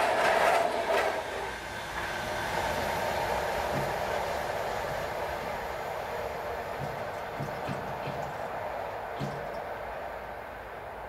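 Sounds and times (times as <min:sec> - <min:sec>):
passenger train rumbling: 0:00.0 - 0:11.0.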